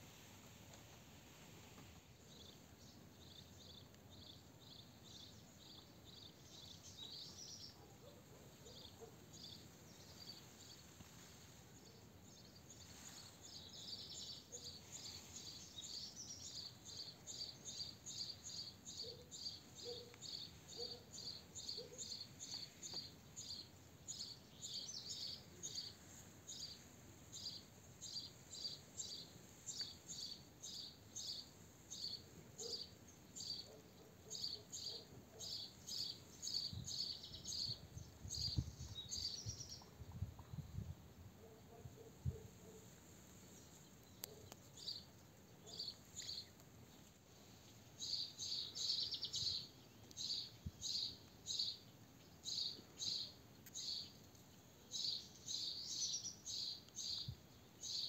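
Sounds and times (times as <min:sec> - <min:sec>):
small bird chirping: 0:02.3 - 0:58.0.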